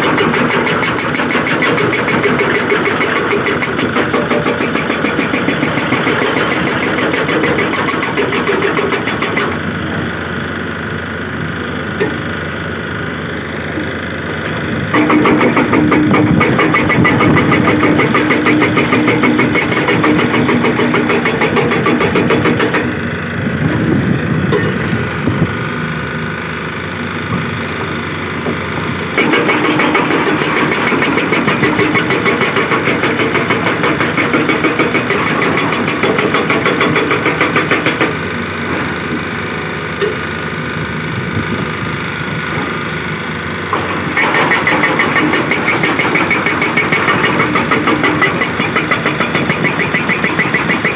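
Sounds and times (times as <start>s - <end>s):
hydraulic rock breaker hammering rock: 0.0s - 50.9s
machine engine running: 0.0s - 50.9s.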